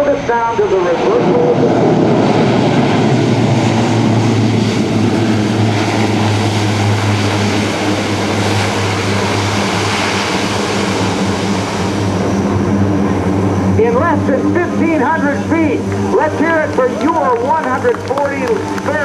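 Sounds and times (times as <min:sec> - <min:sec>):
propeller drone: 0:00.0 - 0:19.0
reverse thrust roar: 0:00.0 - 0:19.0.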